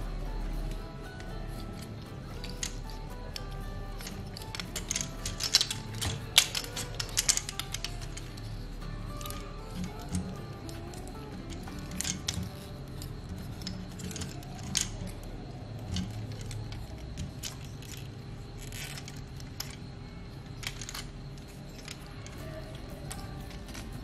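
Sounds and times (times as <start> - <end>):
background music: 0.0 - 24.0
plastic toy parts clicking: 0.6 - 24.0.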